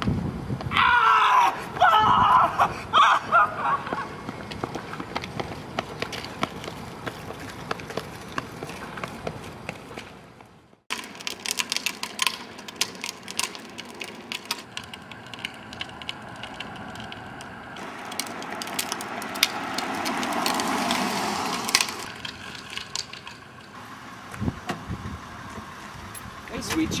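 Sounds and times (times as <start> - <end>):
trike wheels rattling on asphalt: 3.3 - 10.2, 10.9 - 27.0.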